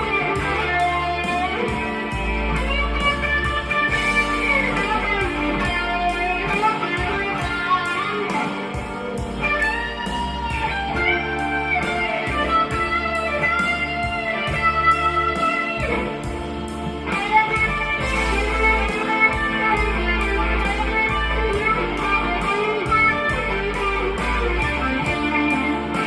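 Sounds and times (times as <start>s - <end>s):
electric guitar lead: 0.0s - 26.0s
low bass part: 2.1s - 7.3s, 9.2s - 25.9s.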